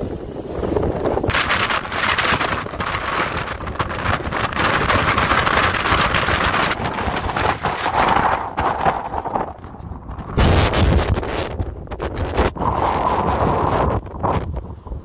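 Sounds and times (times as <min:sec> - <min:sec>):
gusty storm wind buffeting microphone: 0:00.0 - 0:15.0.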